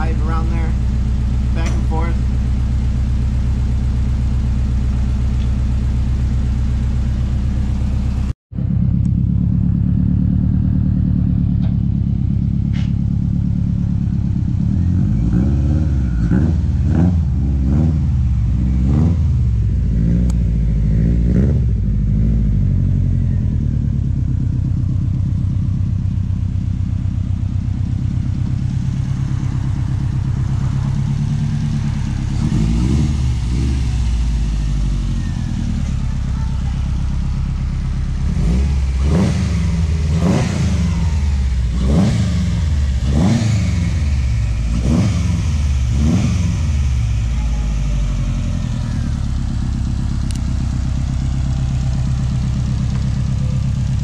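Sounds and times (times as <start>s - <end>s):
car engine idling: 0.0s - 54.0s
engine throttle blips: 0.0s - 54.0s.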